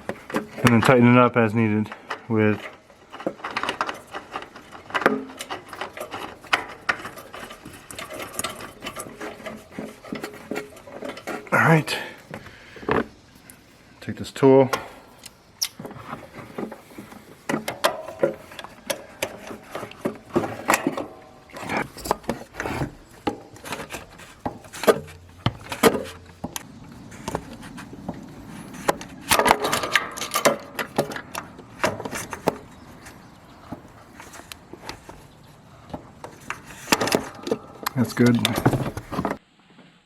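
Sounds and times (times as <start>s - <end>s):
wrench knocking and scraping metal: 0.0s - 13.1s, 15.7s - 39.4s.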